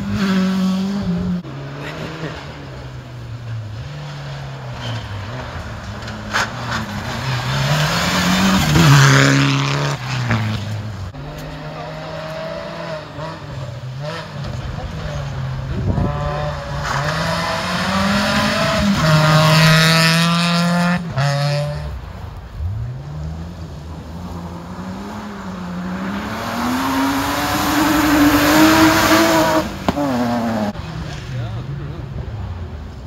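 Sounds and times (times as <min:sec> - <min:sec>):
rally car revving through gears: 0:00.0 - 0:22.0, 0:22.6 - 0:31.3
rally car passing at speed: 0:00.0 - 0:33.0.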